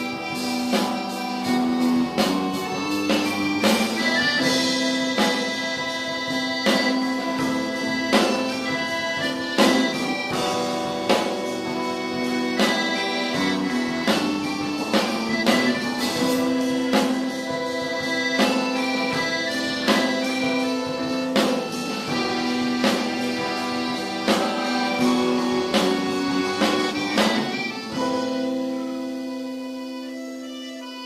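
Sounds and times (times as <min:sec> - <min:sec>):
drum and cymbal hits: 0:00.0 - 0:29.4
rock band playing live: 0:00.0 - 0:31.0.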